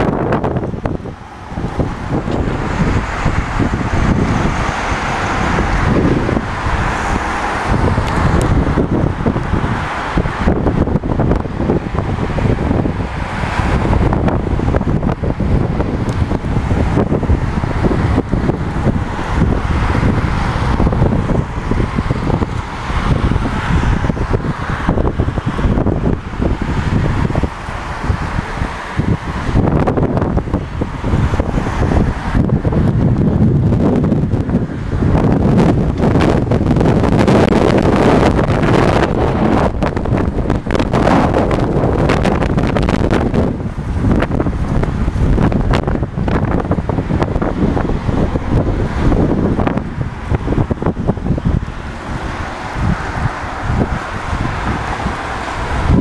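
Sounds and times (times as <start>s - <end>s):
cars passing on road: 0.0s - 56.0s
wind buffeting microphone: 0.0s - 56.0s.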